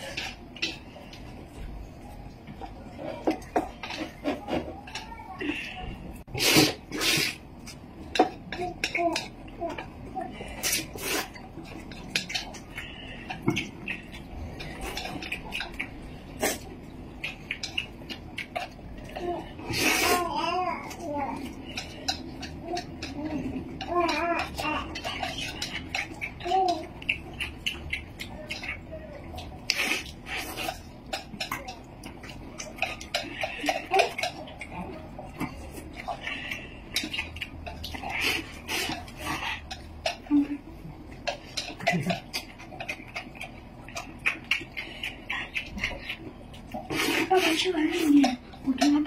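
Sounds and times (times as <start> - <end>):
chopsticks and bowls clicking: 7.6 - 46.9.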